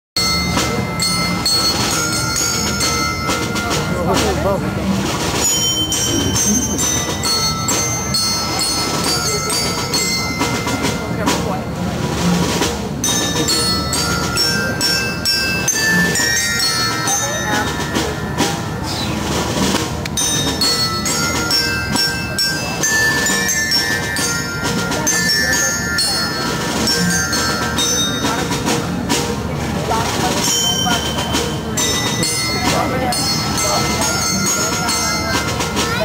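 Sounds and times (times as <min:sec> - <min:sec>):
chimes and bells ringing melody: 0:00.2 - 0:12.1, 0:12.9 - 0:36.0
hand drums: 0:00.2 - 0:36.0.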